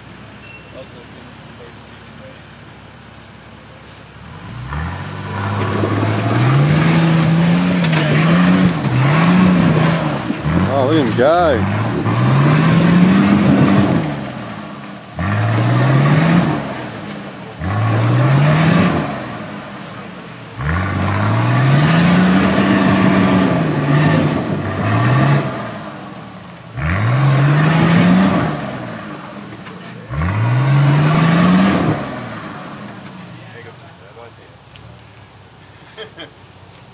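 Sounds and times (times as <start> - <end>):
engine revving: 4.2 - 33.7.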